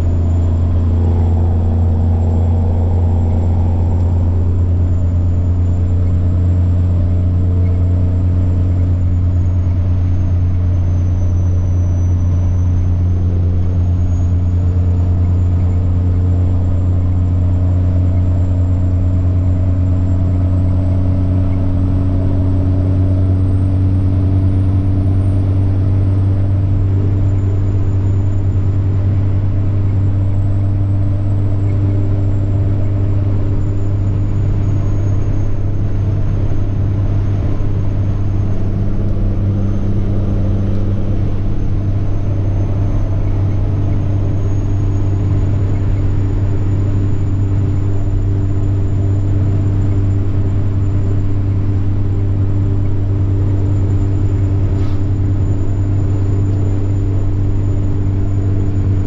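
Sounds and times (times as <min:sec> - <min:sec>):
diesel truck engine droning: 0:00.0 - 0:59.0
turbocharger whine: 0:00.0 - 0:59.0.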